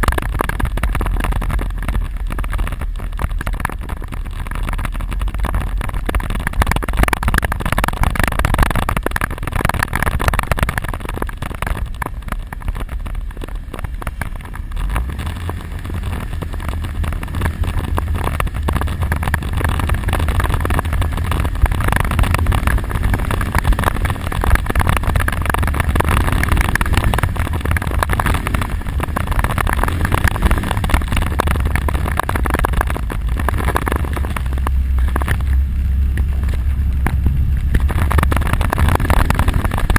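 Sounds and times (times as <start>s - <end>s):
atv engine rumbling: 0.0s - 39.9s
rushing noise: 0.0s - 39.9s.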